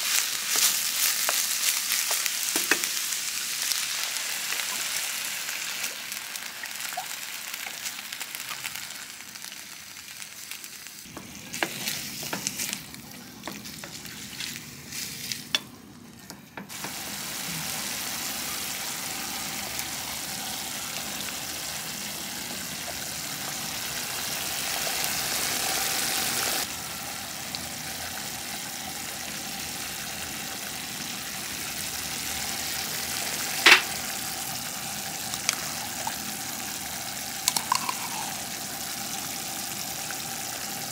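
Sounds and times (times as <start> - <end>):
food sizzling in a pan: 0.0 - 15.6, 16.7 - 40.9.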